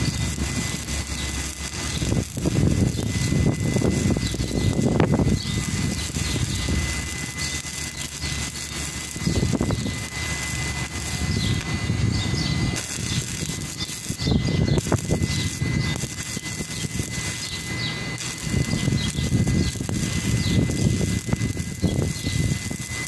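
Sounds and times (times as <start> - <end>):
welding arc crackling and hissing: 0.0 - 23.0.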